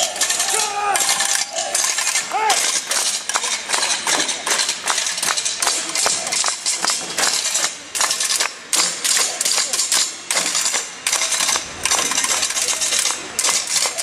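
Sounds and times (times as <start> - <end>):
metallic objects clattering: 0.0 - 14.0.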